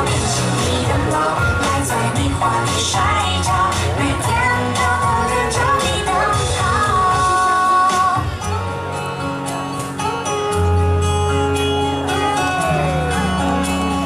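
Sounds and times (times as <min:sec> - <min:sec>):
instrumental pop music: 0:00.0 - 0:14.0.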